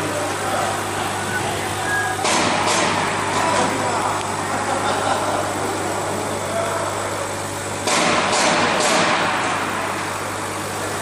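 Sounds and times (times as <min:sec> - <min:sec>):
laser cutter fans and motors humming: 0:00.0 - 0:11.0.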